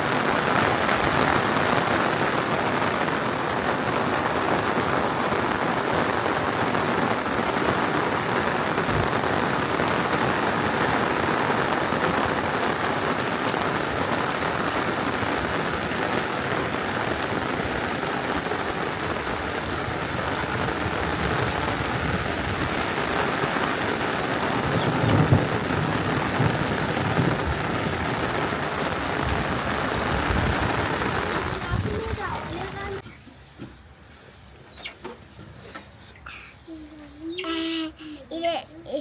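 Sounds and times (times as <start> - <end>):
heavy rain: 0.0 - 33.0, 36.3 - 39.0.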